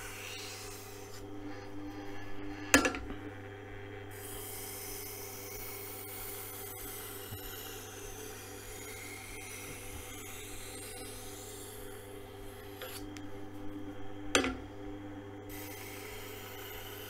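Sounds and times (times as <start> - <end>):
knife scraping on grinding wheel: 0.0 - 3.2, 4.1 - 13.7, 15.5 - 17.0
grinder motor humming: 0.0 - 17.0.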